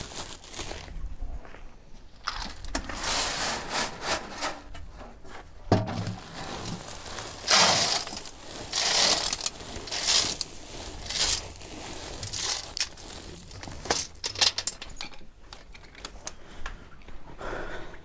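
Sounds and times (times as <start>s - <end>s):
cattle feed crunching and rustling: 0.0s - 16.6s.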